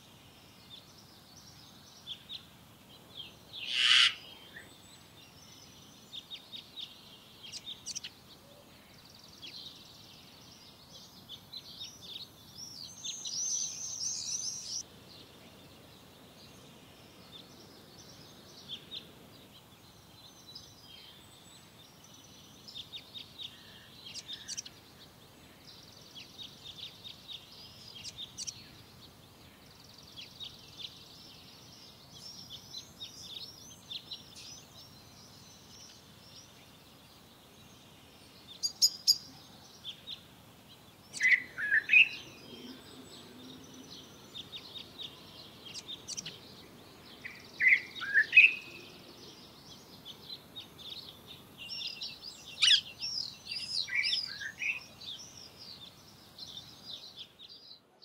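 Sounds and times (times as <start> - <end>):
blackbird singing: 0.3 - 58.0.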